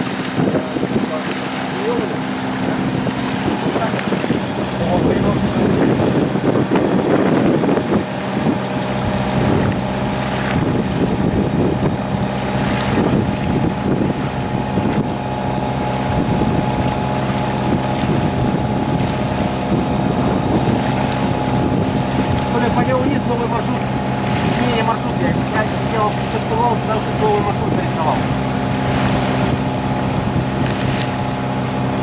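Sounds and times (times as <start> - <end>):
boat engine humming: 0.0 - 32.0
water rushing along hull: 0.0 - 32.0
wind buffeting microphone: 0.0 - 32.0.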